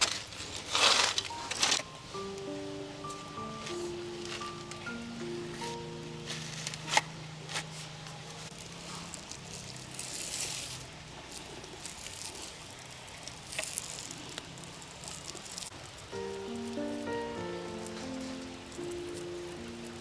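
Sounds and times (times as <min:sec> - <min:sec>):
soft rustling: 0:00.0 - 0:02.0, 0:03.0 - 0:20.0.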